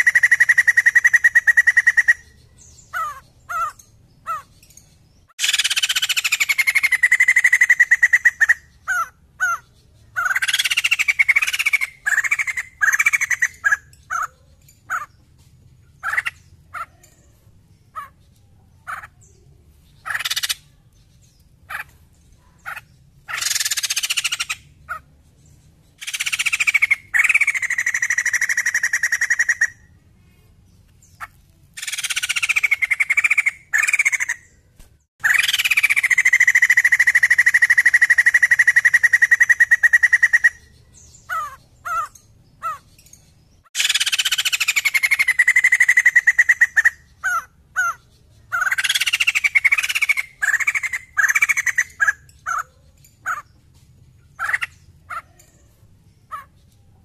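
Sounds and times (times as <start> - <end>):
bird harsh chattering calls: 0.0 - 30.0, 31.0 - 57.0.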